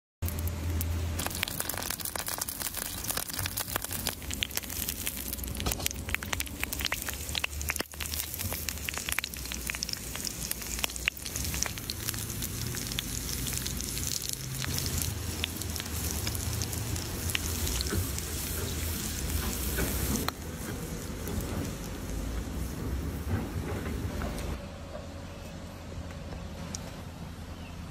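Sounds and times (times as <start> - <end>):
hot oil sizzling and popping: 0.2 - 24.0.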